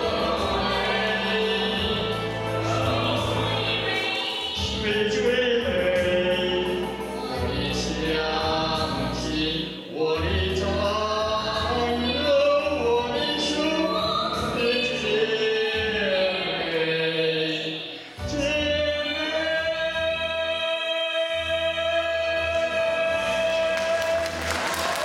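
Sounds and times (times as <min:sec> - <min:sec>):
musical accompaniment: 0:00.0 - 0:25.0.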